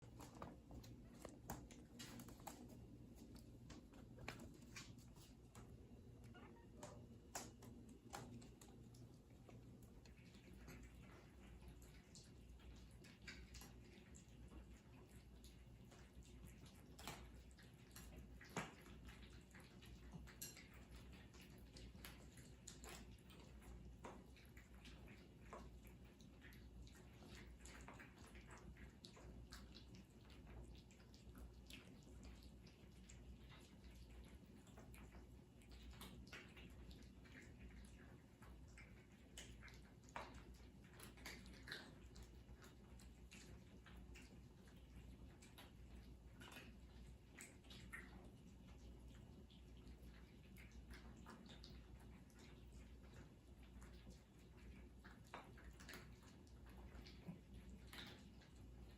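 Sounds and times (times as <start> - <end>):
cats chewing clicks: 0.0 - 58.9
low steady hum: 0.0 - 58.9.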